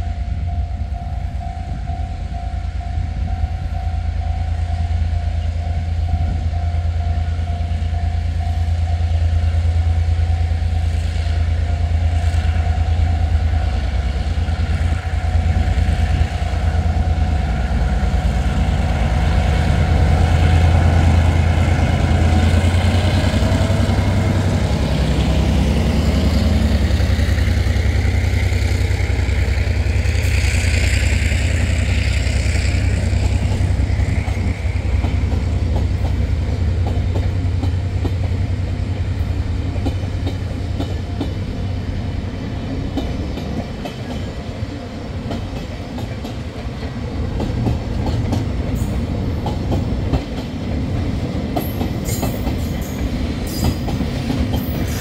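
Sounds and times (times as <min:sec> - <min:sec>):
locomotive engine drone: 0:00.0 - 0:55.0
train wheels clicking on rails: 0:07.4 - 0:55.0.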